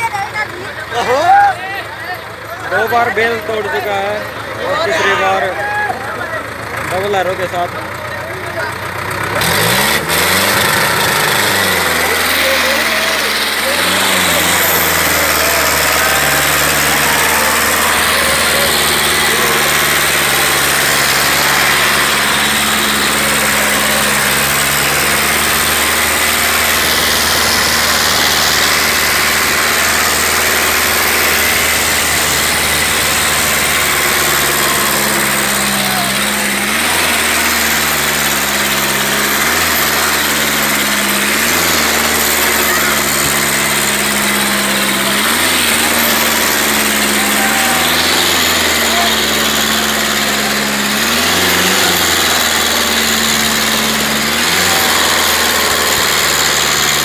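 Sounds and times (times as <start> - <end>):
tractor diesel engine labouring: 0.0 - 57.0.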